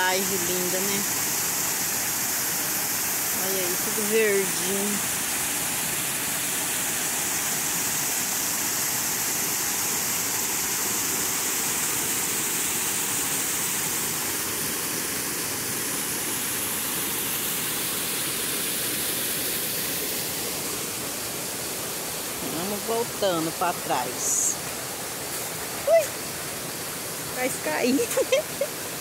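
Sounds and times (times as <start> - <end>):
small waterfall pouring: 0.0 - 29.0.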